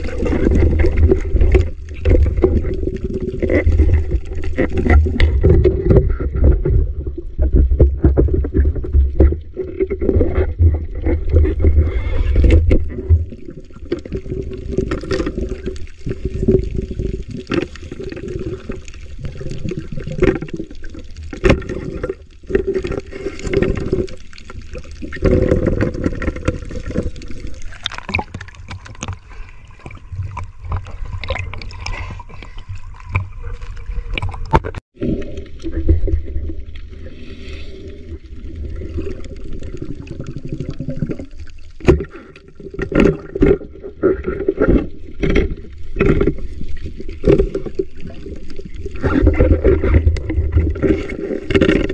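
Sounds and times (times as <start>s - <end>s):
low rumble of water movement: 0.0s - 51.9s
water sloshing and gurgling: 0.0s - 51.9s.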